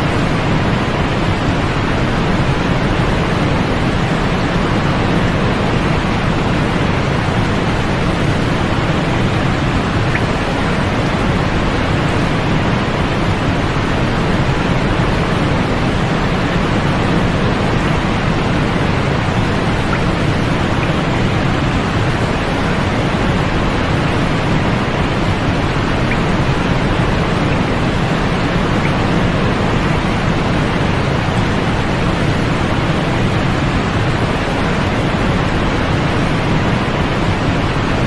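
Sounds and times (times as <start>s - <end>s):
steady white noise hiss: 0.0s - 38.0s.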